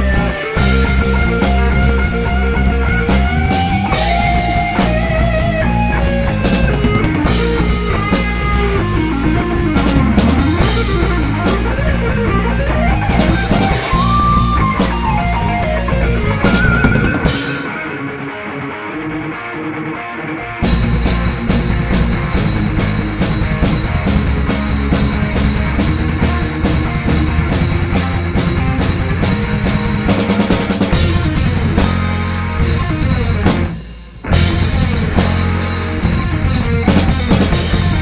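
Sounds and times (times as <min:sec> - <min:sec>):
pounding drums and cymbals: 0:00.0 - 0:18.2, 0:20.6 - 0:38.0
lead guitar bending and sliding: 0:00.0 - 0:38.0
rock band playing live: 0:00.0 - 0:38.0.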